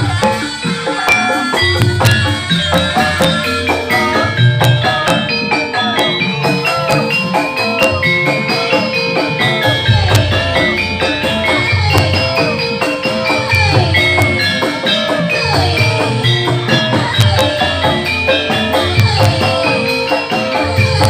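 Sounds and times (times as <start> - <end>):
steady drumming: 0.0 - 21.0.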